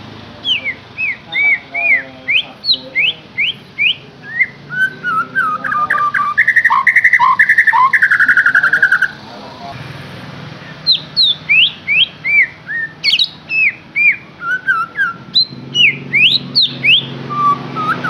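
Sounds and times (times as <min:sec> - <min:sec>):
songbird singing whistled notes: 0:00.4 - 0:09.2, 0:10.7 - 0:18.0.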